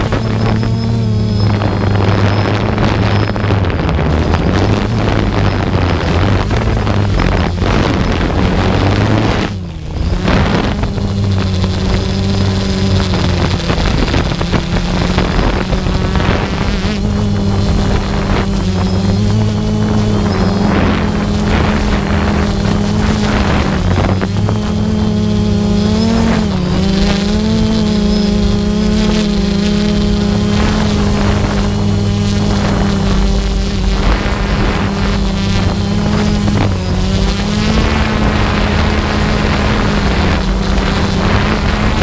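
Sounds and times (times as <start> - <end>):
aircraft propeller drone: 0.0 - 42.0
wind on microphone: 0.0 - 42.0.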